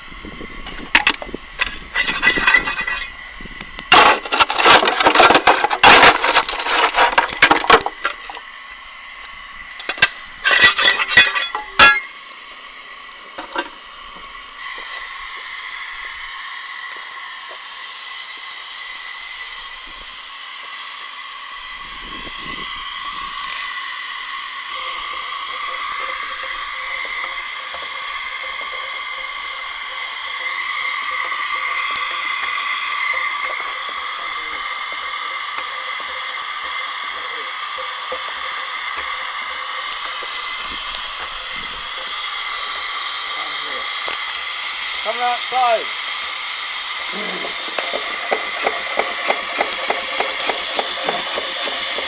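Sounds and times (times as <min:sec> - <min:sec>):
steam hissing from locomotive: 0:00.0 - 0:52.0.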